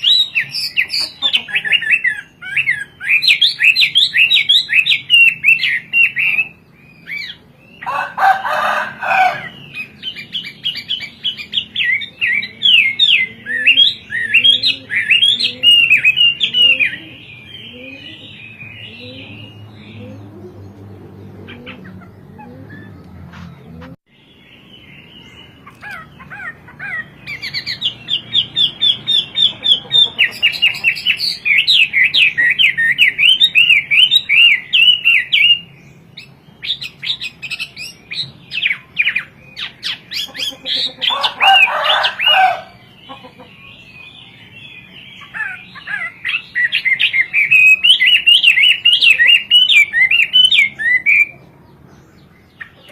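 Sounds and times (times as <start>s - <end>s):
songbird whistling song: 0.0s - 7.9s, 9.4s - 20.9s, 21.5s - 52.9s.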